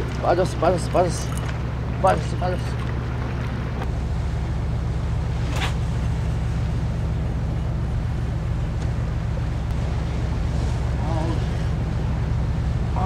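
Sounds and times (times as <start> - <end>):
low drone: 0.0 - 13.0.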